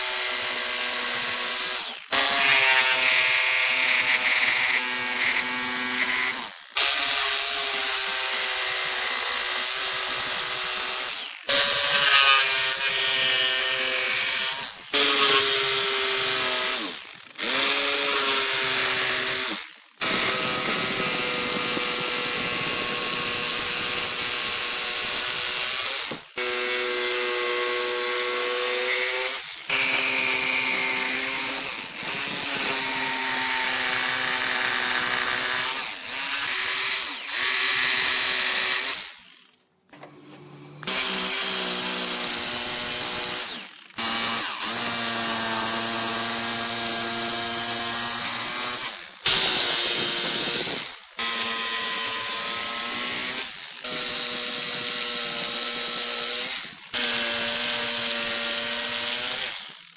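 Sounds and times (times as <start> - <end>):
electric power tool motor whine: 0.0 - 39.6, 40.2 - 59.9.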